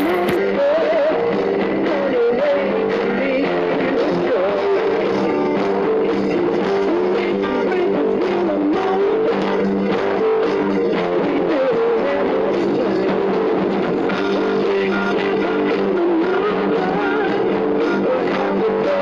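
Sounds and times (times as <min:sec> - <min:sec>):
background guitar music: 0:00.0 - 0:19.0.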